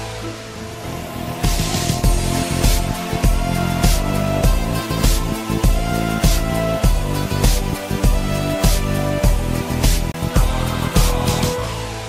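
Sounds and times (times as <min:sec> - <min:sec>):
background music with drum beat: 0:01.4 - 0:11.8.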